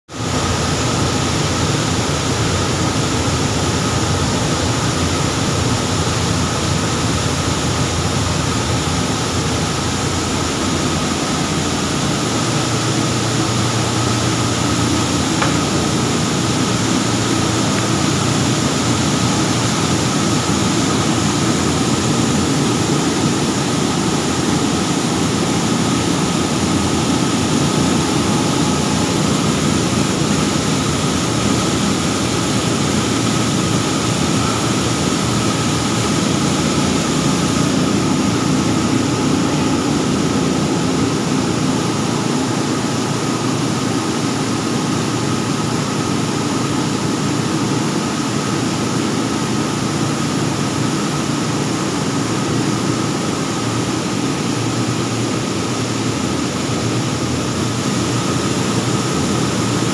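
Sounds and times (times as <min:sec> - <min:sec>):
dryer blower machinery noise: 0:00.1 - 0:59.9
thin steady whine: 0:00.2 - 0:59.9.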